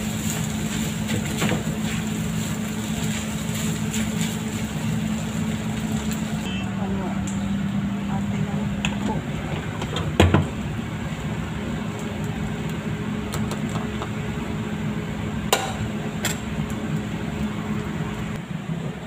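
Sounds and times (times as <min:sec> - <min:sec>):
air fryer humming: 0:00.0 - 0:19.0.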